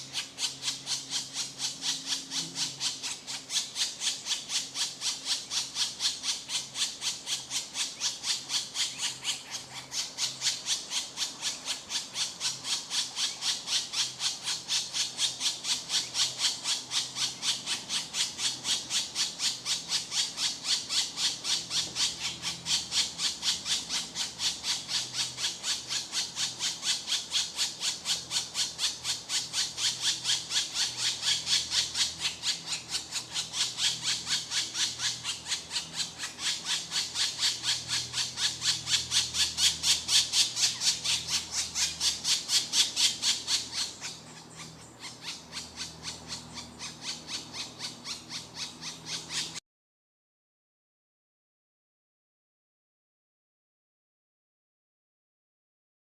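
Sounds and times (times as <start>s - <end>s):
woodpecker nestlings begging calls: 0.0s - 49.6s.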